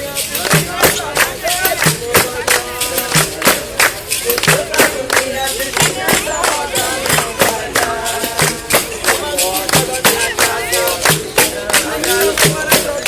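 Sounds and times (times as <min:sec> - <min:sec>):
berimbau percussion rhythm: 0:00.0 - 0:13.0
people singing: 0:00.0 - 0:13.0.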